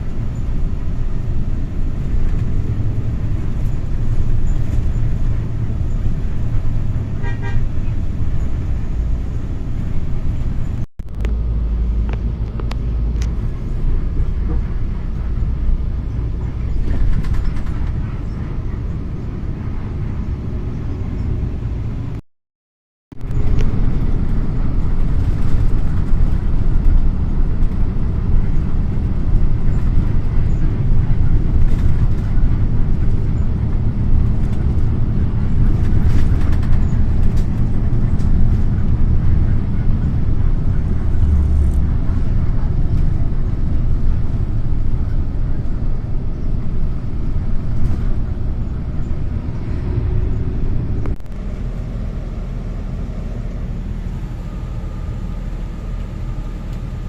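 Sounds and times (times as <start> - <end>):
car engine and tyre rumble: 0.0 - 22.2, 23.1 - 57.0.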